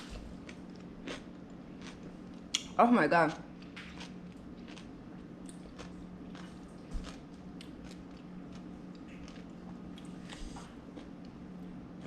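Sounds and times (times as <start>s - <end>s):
crunchy chewing: 0.0s - 2.6s, 3.6s - 12.0s
steady low hum: 0.0s - 12.0s.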